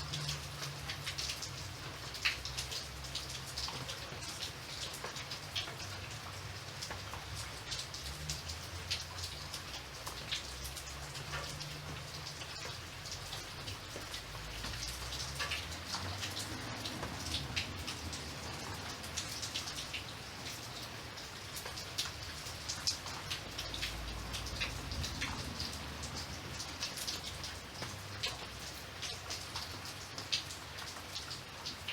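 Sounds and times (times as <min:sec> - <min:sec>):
rain drops pattering: 0:00.0 - 0:31.9.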